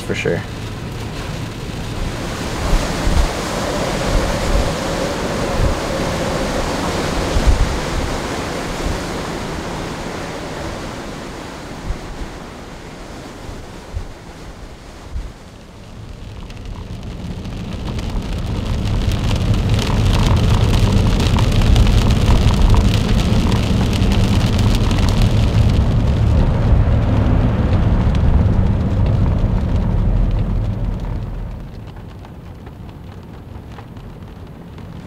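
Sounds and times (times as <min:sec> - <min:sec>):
rain pattering on a car: 0:00.0 - 0:35.0
storm wind rumble: 0:00.0 - 0:35.0.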